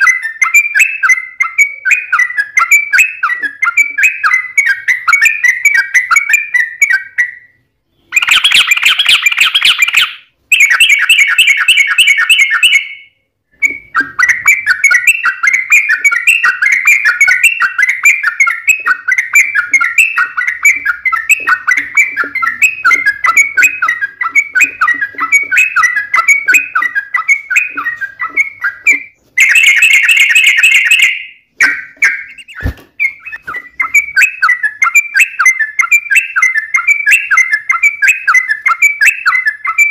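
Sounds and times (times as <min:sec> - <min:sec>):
bulbuls singing chattering notes: 0:00.0 - 0:39.9
harsh outburst of bird calls: 0:02.1 - 0:35.8.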